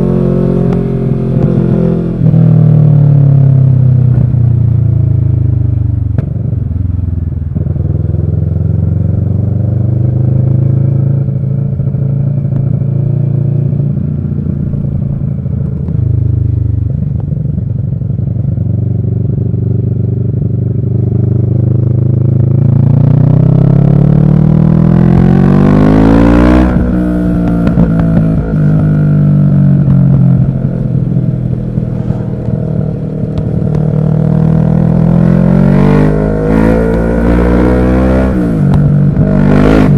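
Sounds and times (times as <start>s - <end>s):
motorcycle engine revving: 0.0s - 6.6s, 7.4s - 39.9s.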